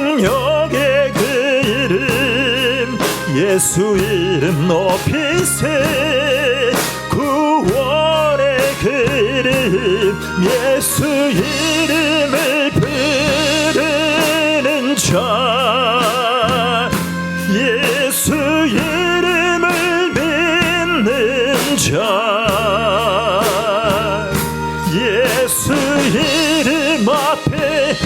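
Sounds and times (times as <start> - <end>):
person singing with vibrato: 0.0 - 28.0
sustained accompaniment chords: 0.0 - 28.0.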